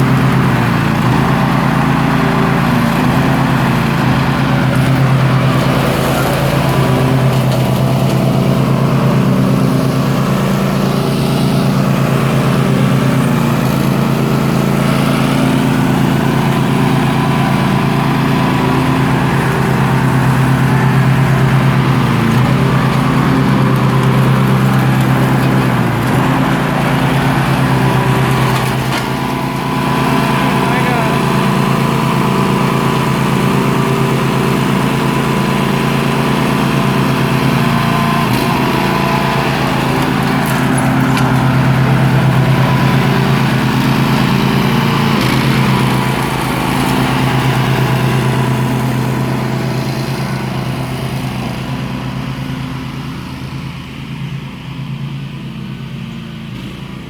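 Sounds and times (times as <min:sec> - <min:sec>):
lawnmower engine running: 0:00.0 - 0:57.0.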